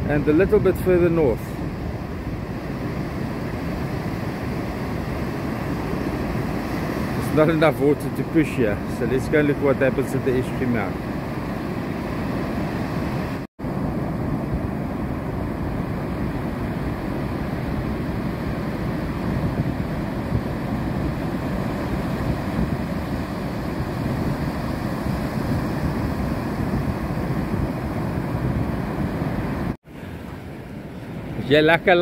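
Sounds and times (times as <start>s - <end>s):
surf breaking on shore: 0.0s - 32.0s
wind buffeting microphone: 0.0s - 32.0s.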